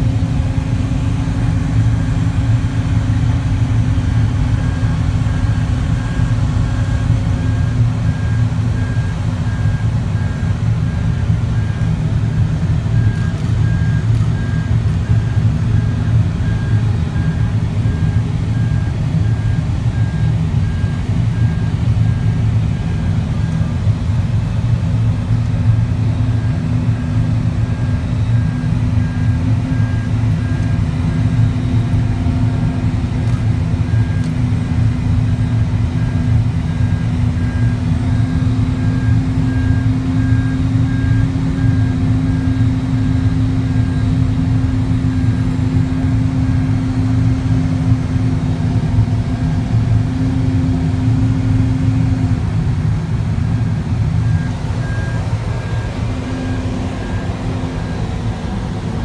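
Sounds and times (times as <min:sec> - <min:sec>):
diesel engine low rumble: 0:00.0 - 0:59.0
faint repeating beep: 0:01.6 - 0:23.8, 0:26.3 - 0:34.4, 0:35.3 - 0:48.3, 0:53.6 - 0:59.0.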